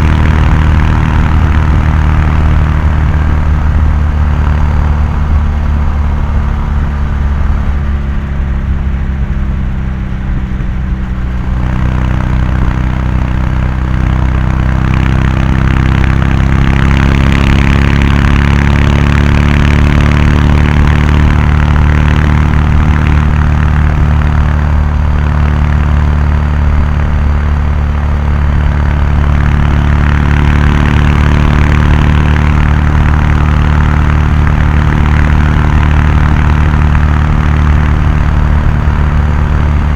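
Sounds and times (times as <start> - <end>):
motorcycle exhaust at speed: 0.0 - 39.9.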